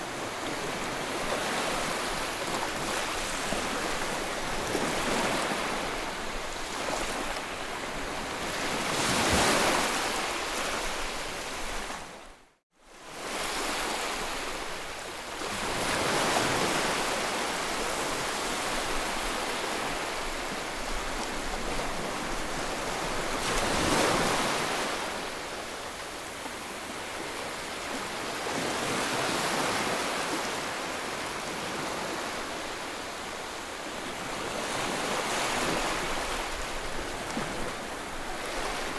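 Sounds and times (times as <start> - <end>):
sea waves breaking on shore: 0.0 - 12.3, 12.9 - 38.9.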